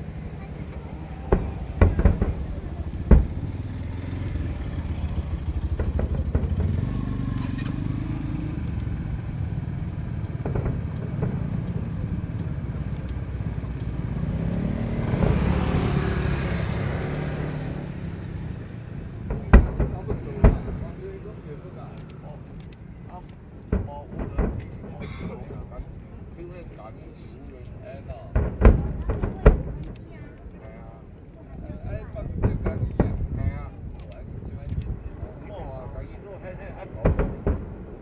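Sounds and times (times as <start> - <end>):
fireworks bangs: 0.0 - 38.0
vehicle engine rumbling: 0.0 - 38.0.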